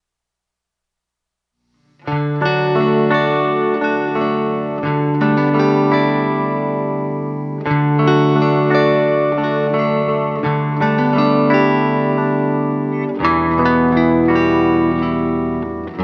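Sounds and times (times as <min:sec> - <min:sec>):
instrumental guitar music: 0:01.7 - 0:16.0.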